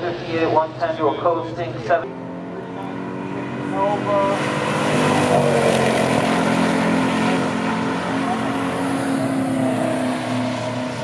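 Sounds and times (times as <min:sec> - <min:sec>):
car engine passing at speed: 0:00.0 - 0:11.0.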